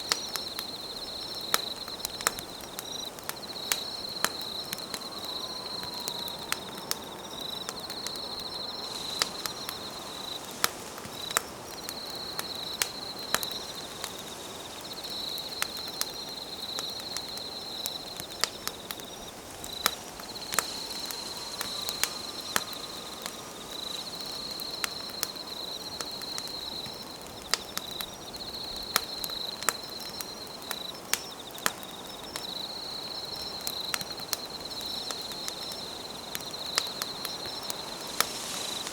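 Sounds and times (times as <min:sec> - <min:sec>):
campfire crackling and popping: 0:00.0 - 0:38.9
hiss of burning wood: 0:00.0 - 0:38.9
insect trilling: 0:00.0 - 0:38.9.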